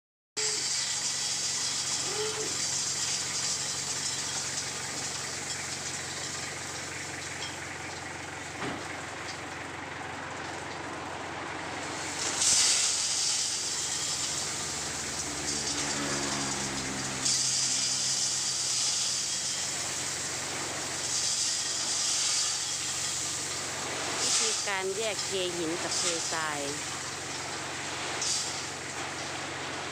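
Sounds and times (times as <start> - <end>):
gravel pouring from truck bed: 0.4 - 29.9
truck engine running: 0.5 - 29.9.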